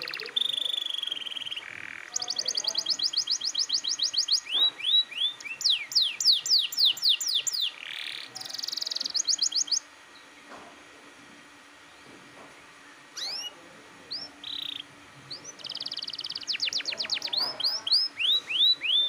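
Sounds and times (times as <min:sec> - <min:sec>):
canary singing: 0:00.0 - 0:10.3, 0:13.2 - 0:19.0.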